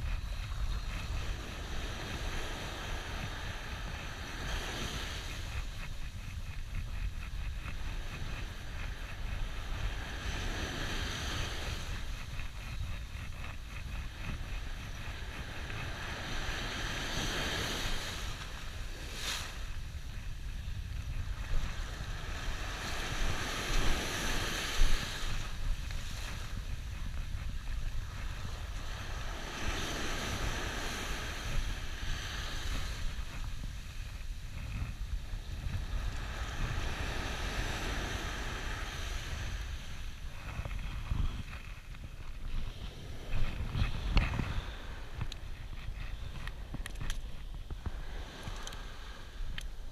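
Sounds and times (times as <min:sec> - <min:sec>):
sea waves breaking on shore: 0:00.0 - 0:49.9
wind rumble on microphone: 0:00.0 - 0:49.9.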